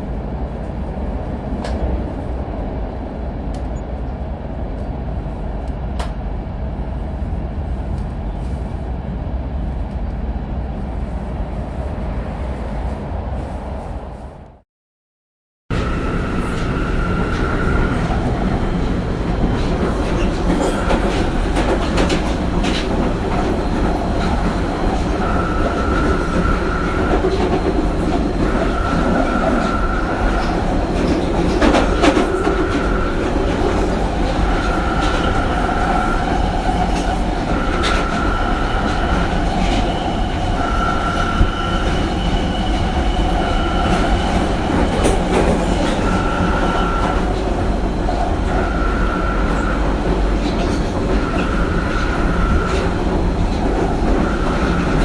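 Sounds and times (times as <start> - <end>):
train carriage rumble: 0.0 - 14.6, 15.7 - 55.0.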